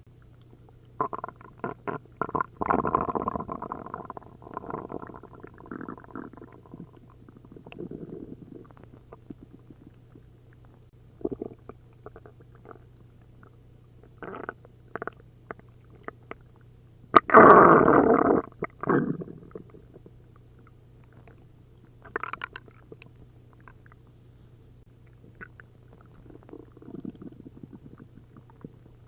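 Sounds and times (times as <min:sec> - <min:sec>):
stomach gurgling: 0:00.2 - 0:24.0, 0:25.0 - 0:29.0.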